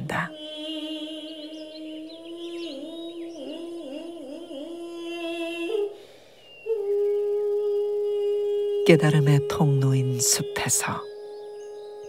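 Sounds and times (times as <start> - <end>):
voice humming a wavering note: 0.0 - 12.0.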